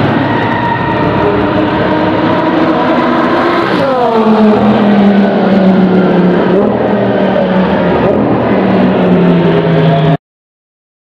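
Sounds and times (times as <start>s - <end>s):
sports car engine passing at speed: 0.1s - 10.2s.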